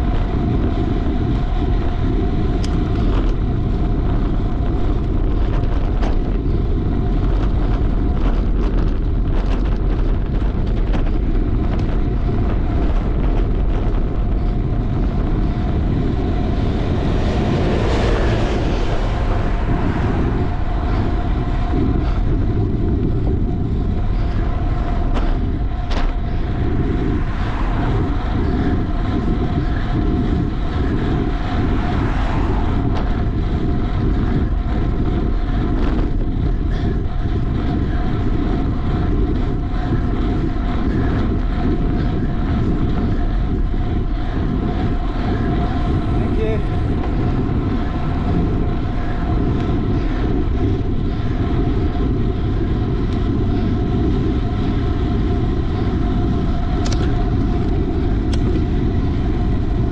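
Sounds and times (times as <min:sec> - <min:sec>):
faint bike hum: 0:00.0 - 0:59.9
wind rushing over microphone: 0:00.0 - 0:59.9.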